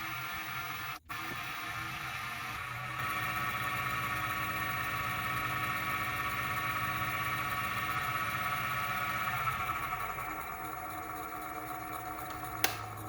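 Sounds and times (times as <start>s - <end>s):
lathe motor whining: 0.0s - 13.0s.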